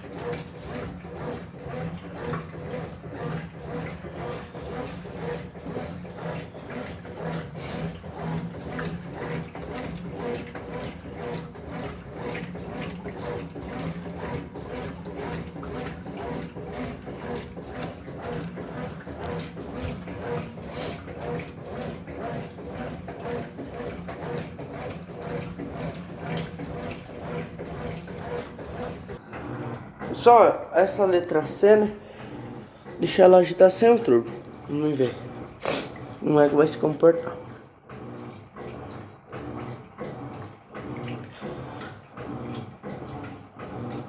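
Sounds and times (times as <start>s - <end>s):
washing machine motor hum: 0.0s - 44.0s
water swishing and sloshing: 0.0s - 44.0s.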